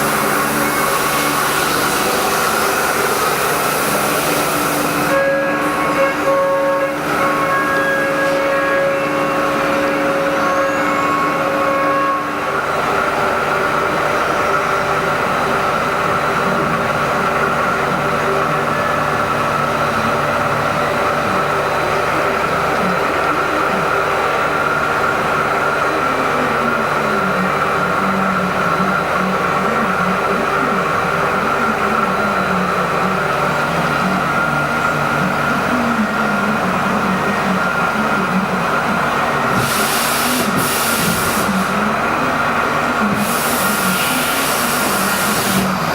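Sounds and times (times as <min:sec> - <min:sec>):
machine hum with high whine: 0:00.0 - 0:45.9.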